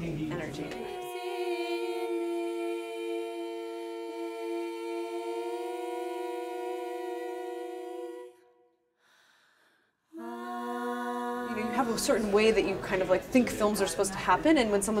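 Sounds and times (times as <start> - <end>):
voices holding harmony chord: 0.0 - 8.5, 10.2 - 14.5.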